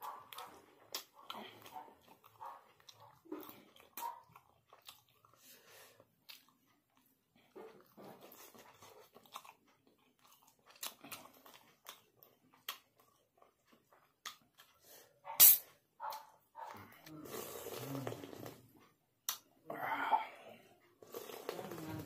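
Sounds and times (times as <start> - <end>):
person chewing with wet smacks: 0.0 - 19.6.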